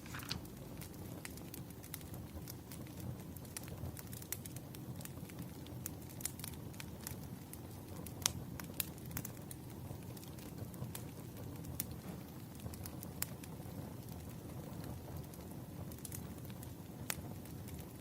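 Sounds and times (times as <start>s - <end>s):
low rumble of burning logs: 0.0s - 18.0s
wood fire crackling: 0.0s - 18.0s.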